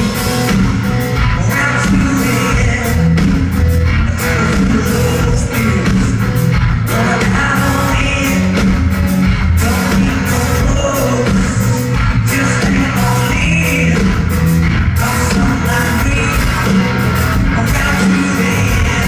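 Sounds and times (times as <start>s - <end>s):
live rock band playing: 0.0s - 19.0s
male lead vocal: 1.1s - 19.0s.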